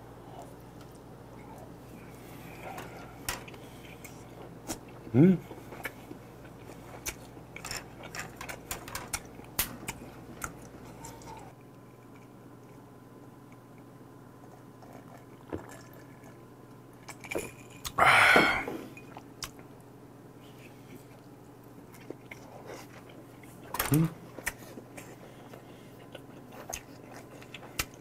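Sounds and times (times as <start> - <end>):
chewing with clicks and smacks: 2.6 - 18.0, 19.1 - 19.8, 20.5 - 28.0.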